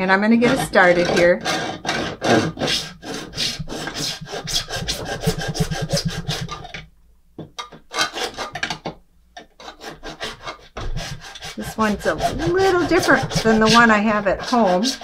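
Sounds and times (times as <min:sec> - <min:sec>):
hand saw cutting plastic: 0:00.3 - 0:06.8, 0:07.6 - 0:15.0.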